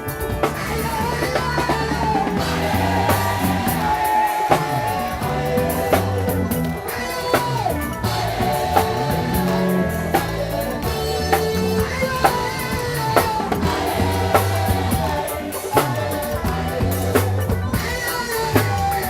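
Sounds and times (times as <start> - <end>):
band playing praise music: 0.0 - 19.0
person singing: 0.0 - 19.0.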